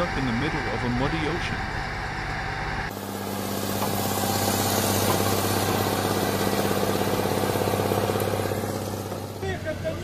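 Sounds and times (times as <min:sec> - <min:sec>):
heavy truck engine running: 0:00.0 - 0:10.0.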